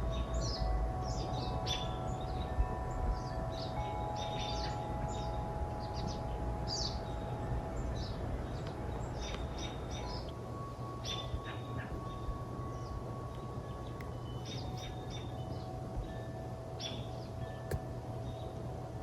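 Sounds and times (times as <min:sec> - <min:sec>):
birds chirping: 0:00.0 - 0:19.0
low background rumble: 0:00.0 - 0:19.0.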